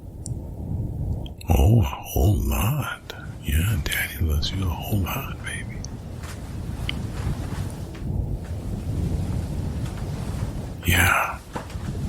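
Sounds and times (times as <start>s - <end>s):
strong wind rushing: 0.0s - 12.0s.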